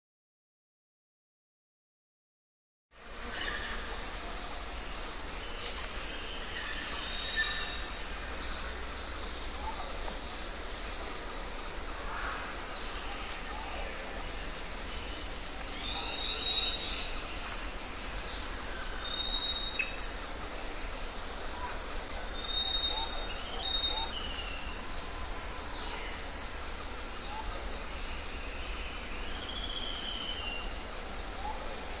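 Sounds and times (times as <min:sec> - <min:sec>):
steady background hiss: 0:03.0 - 0:32.0
birds singing and chirping: 0:05.4 - 0:32.0.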